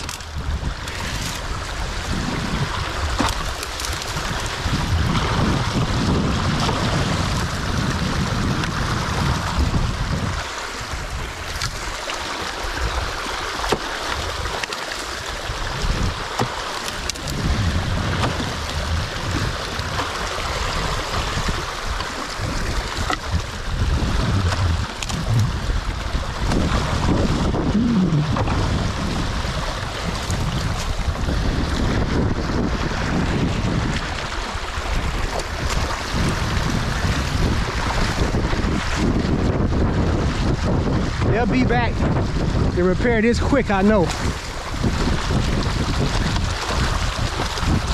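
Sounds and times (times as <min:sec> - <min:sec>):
water rushing and splashing: 0:00.0 - 0:47.9
wind rumble on microphone: 0:00.0 - 0:47.9.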